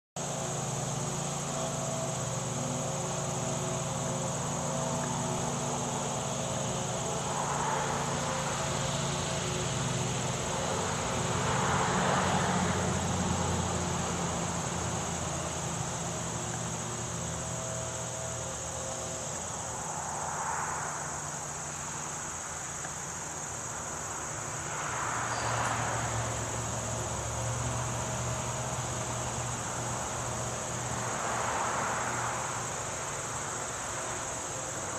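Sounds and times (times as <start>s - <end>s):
insects chirping: 0.2s - 34.9s.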